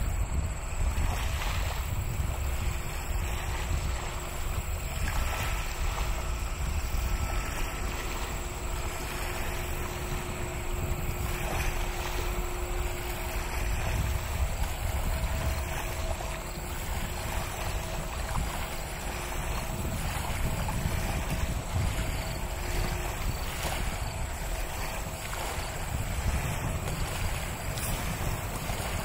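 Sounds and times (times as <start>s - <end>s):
jet engines rumbling: 0.0s - 29.0s
wind noise: 0.0s - 29.0s.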